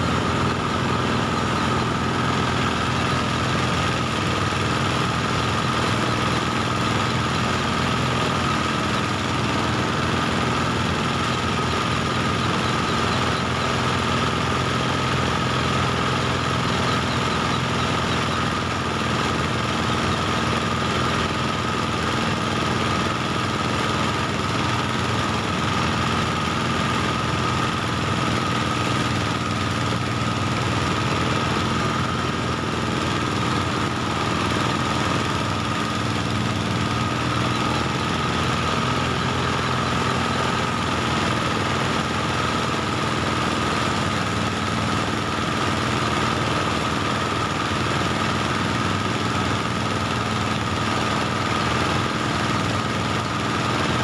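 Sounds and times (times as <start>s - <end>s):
rice threshing machine running: 0.0s - 54.0s.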